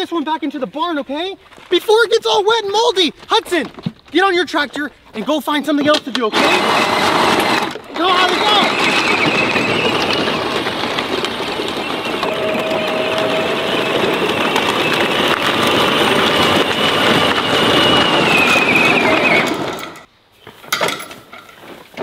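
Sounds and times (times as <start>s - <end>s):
plastic wheels rattling over gravel: 0.1s - 20.1s.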